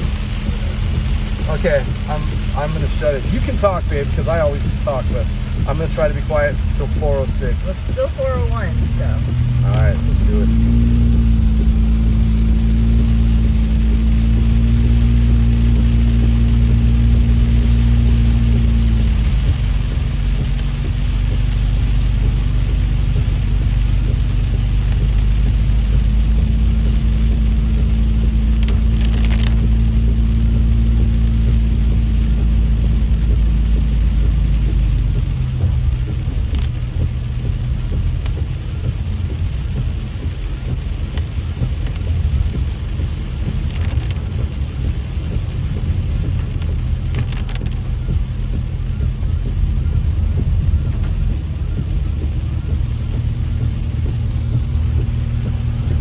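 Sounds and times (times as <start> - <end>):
car engine drone: 0.0 - 56.0
heavy rain: 0.0 - 56.0
tyres hissing on wet road: 0.0 - 56.0.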